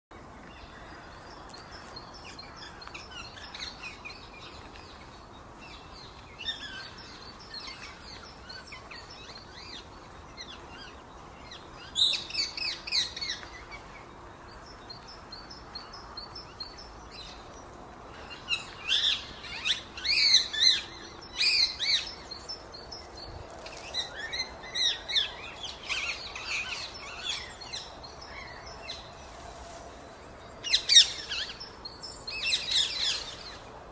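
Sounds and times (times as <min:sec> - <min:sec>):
birds twittering: 0:00.1 - 0:33.9.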